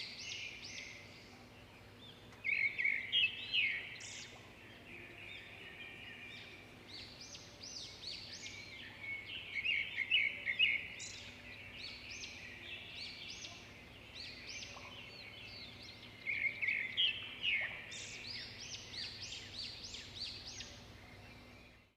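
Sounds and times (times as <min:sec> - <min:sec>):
small birds chirping and singing: 0:00.0 - 0:21.9.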